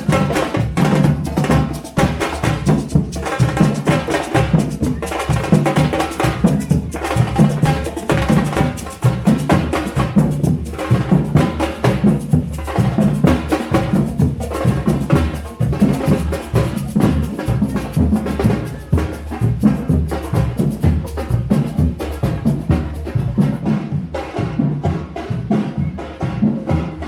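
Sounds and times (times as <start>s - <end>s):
parade drums and percussion: 0.0s - 27.0s.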